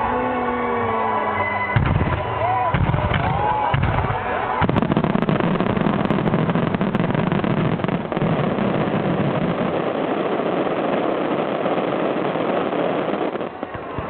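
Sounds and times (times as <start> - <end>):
fireworks bursting and crackling: 1.5 - 14.0
sharp firework bangs: 1.8 - 14.0.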